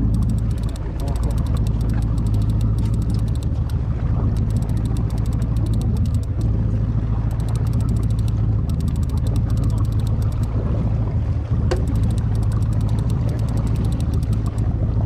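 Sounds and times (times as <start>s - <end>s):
fishing reel clicking: 0.0s - 6.5s, 7.3s - 10.5s, 11.8s - 14.7s
boat engine humming: 0.0s - 15.0s.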